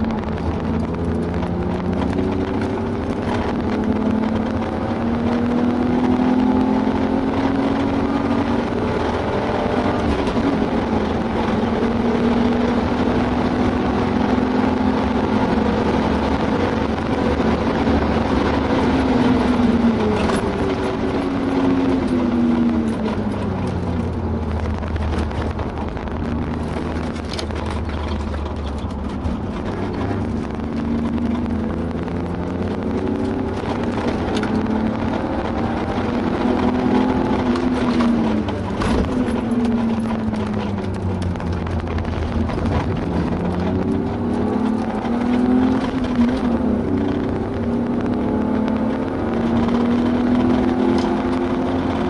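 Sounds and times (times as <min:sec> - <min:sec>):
car engine accelerating: 0:00.0 - 0:52.0
road and wind noise: 0:00.0 - 0:52.0.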